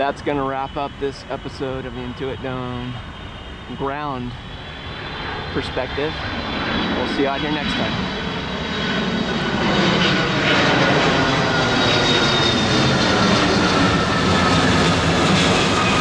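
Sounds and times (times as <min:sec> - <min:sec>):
jet airliner passing overhead: 0:00.0 - 0:16.0.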